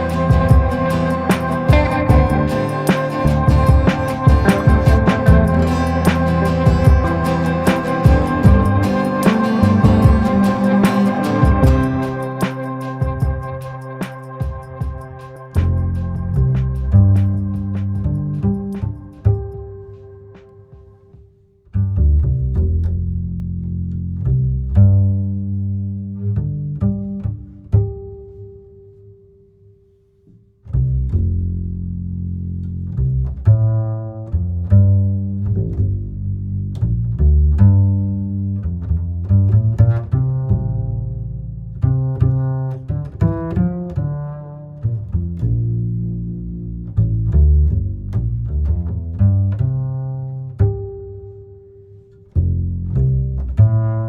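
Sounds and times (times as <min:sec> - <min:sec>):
low plucked instrumental notes: 0:00.0 - 0:29.4, 0:30.6 - 0:54.0.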